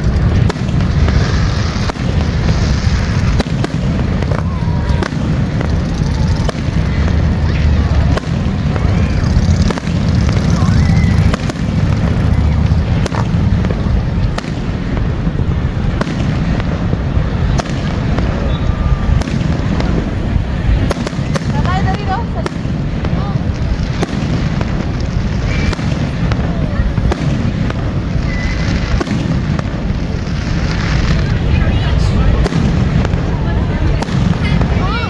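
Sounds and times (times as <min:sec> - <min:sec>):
fireworks banging and popping: 0:00.0 - 0:35.0.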